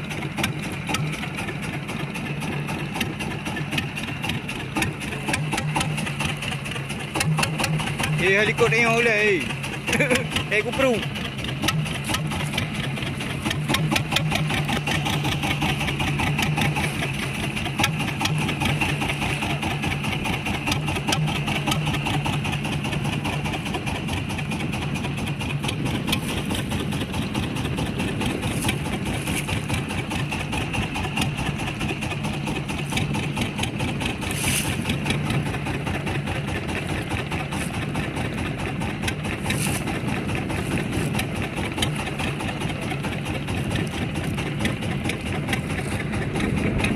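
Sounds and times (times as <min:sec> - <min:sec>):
boat engine running: 0:00.0 - 0:46.9.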